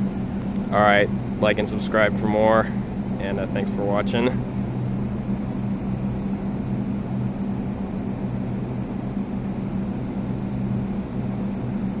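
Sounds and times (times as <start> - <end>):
hvac fans droning: 0.0 - 12.0.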